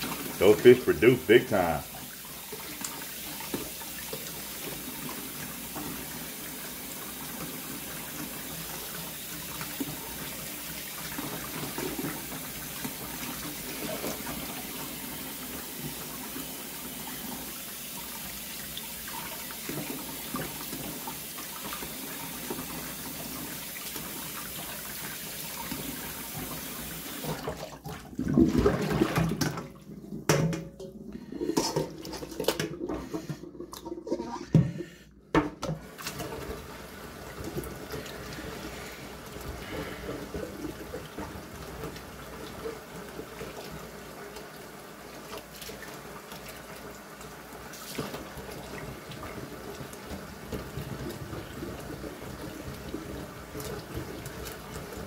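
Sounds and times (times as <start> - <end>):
faucet running into bowl of water: 0.0 - 27.9, 35.9 - 55.0
water splashing into sink: 0.0 - 55.0.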